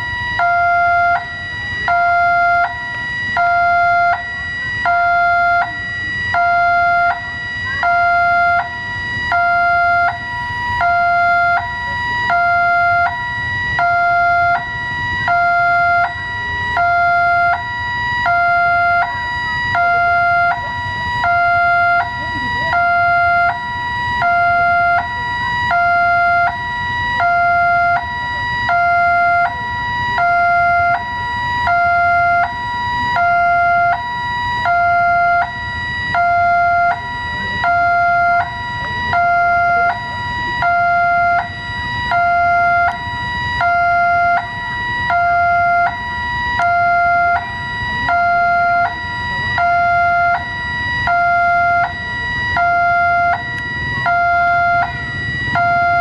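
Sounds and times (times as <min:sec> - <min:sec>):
level crossing warning alarm: 0:00.0 - 0:56.0.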